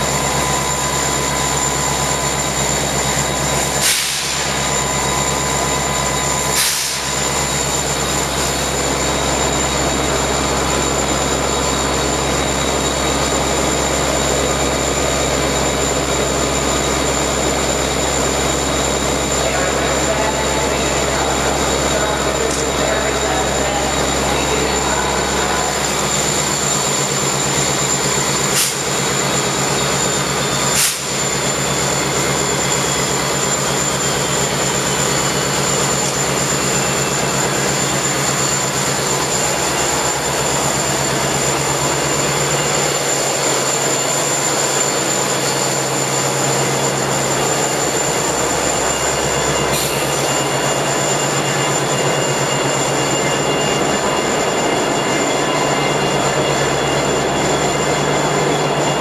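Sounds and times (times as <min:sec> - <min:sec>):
diesel locomotive engines idling: 0:00.0 - 0:59.0
high whine: 0:00.0 - 0:59.0.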